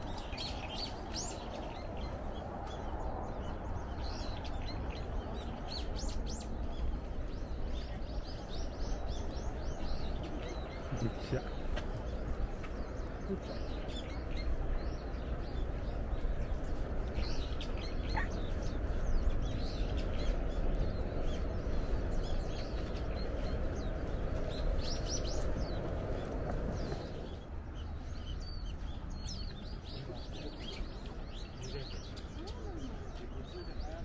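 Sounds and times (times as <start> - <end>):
steady low rumbling noise: 0.0 - 29.8
small birds chirping: 0.0 - 34.0.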